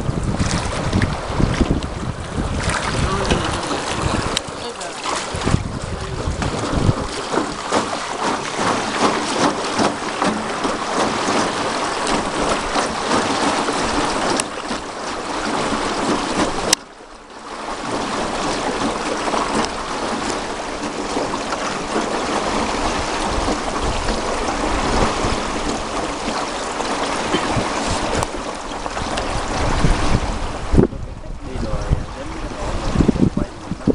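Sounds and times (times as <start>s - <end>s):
wind buffeting microphone: 0.0s - 16.8s, 17.7s - 33.9s
water splashing around boat: 0.0s - 33.9s.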